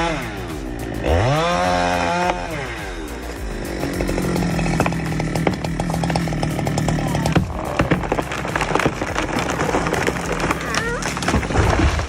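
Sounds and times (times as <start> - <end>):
chainsaw revving and idling: 0.0 - 11.6
sharp cracks and clicks: 1.8 - 12.0.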